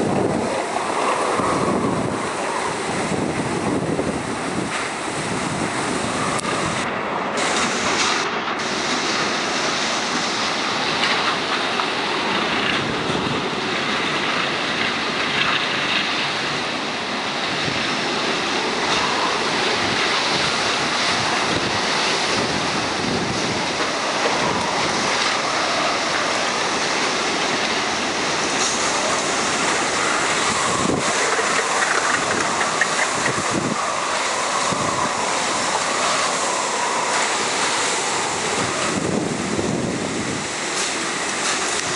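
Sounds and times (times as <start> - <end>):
strong wind gusts: 0.0 - 41.9.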